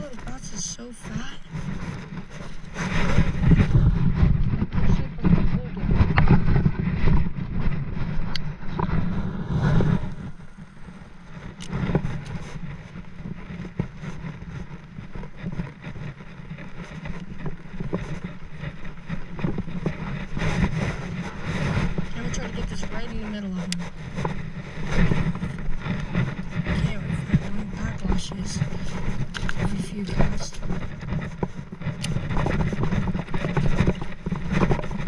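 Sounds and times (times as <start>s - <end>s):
wind rumbling on microphone: 0.0s - 35.0s.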